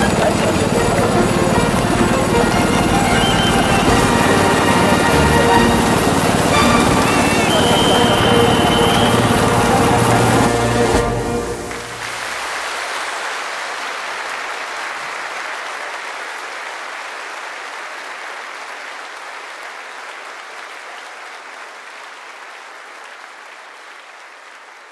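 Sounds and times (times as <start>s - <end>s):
crowd clapping: 0.0s - 24.9s.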